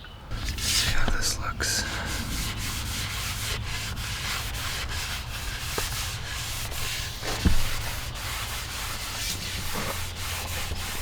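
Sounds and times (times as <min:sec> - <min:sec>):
hand rubbing wooden paddle: 0:00.3 - 0:11.0.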